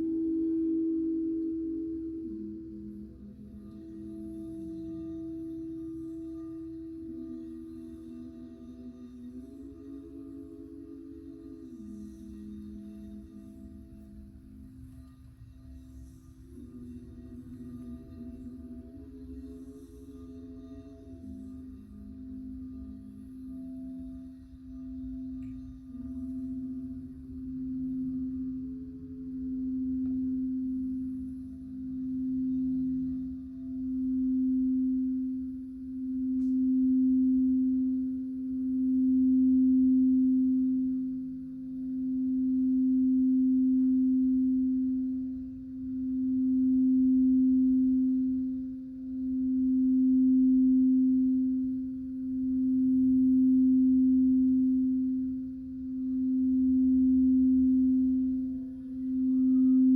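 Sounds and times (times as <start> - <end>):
singing bowl tone: 0.0 - 59.9.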